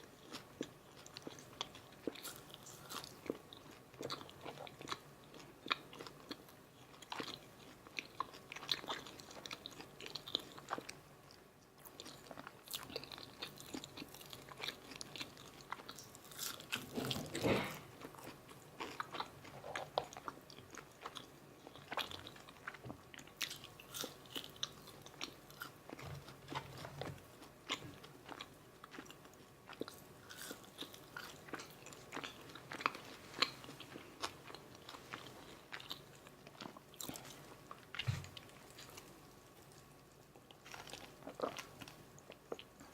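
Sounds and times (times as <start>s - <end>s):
crunchy chewing: 0.1s - 42.9s.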